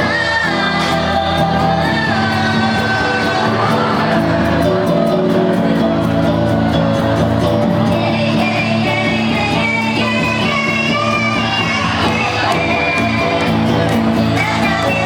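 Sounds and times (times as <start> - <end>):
bass: 0.0 - 15.0
crowd shouting along: 0.0 - 15.0
drums: 0.0 - 15.0
electric guitar: 0.0 - 15.0
person singing: 0.0 - 15.0.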